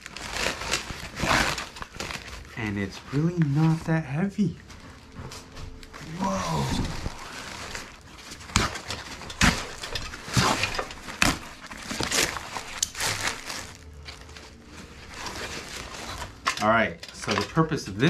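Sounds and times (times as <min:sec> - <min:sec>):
foam wrap and plastic bag rustling: 0:00.0 - 0:18.0
sharp crackle: 0:00.0 - 0:18.0.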